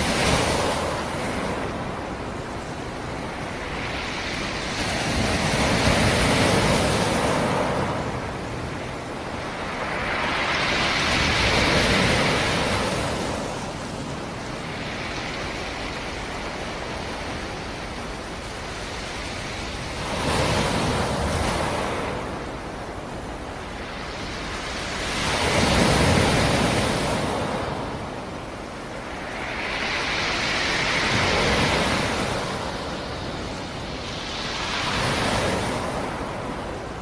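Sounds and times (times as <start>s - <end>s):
waves breaking on shore: 0.0s - 37.0s.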